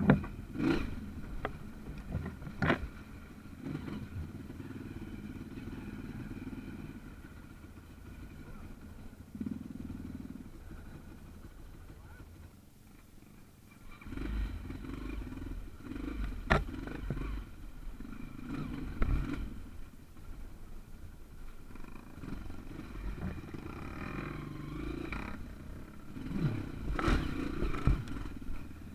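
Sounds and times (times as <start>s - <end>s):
motorcycle engine at low revs: 0.0s - 28.9s.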